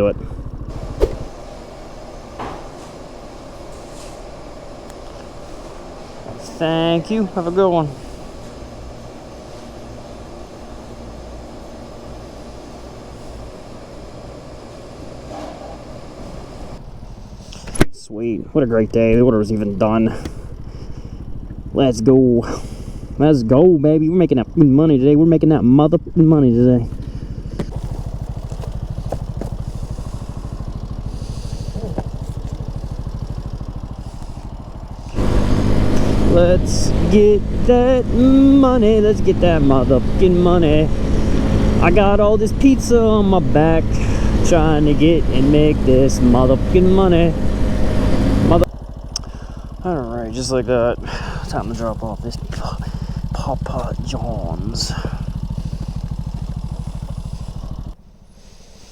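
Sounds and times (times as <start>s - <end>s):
faint steady hum: 0.0s - 58.9s
mini motorcycle engine running: 0.0s - 58.9s.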